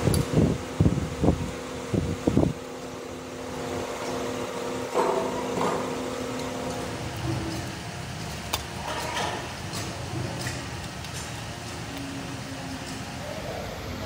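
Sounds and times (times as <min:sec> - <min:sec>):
workshop fan humming: 0:00.0 - 0:14.0.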